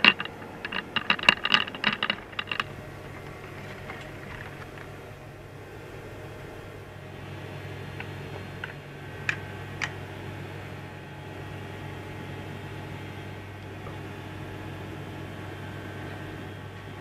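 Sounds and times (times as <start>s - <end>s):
ventilation fans humming: 0.0s - 17.0s.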